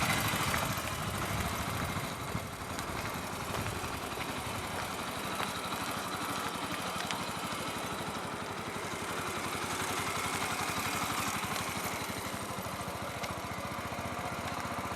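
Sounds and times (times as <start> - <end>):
motorcycle engine running at low revs: 0.0 - 14.9.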